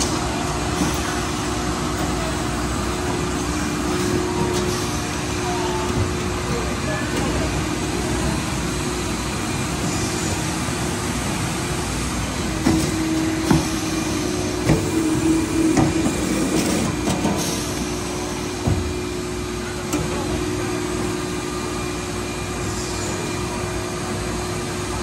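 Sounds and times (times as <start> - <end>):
machine humming: 0.0 - 22.5.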